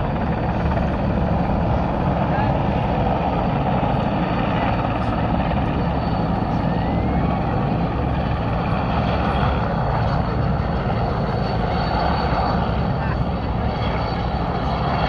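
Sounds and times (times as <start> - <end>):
helicopters flying by: 0.0 - 15.0.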